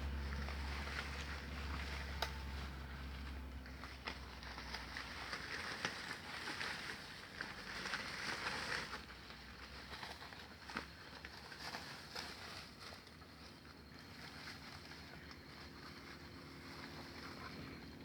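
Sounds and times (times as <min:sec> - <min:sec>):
crackles in undergrowth: 0:00.0 - 0:18.0.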